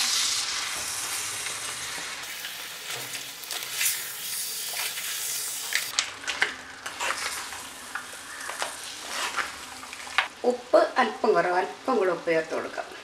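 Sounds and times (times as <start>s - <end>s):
crab masala sizzling in pot: 0.0s - 12.6s.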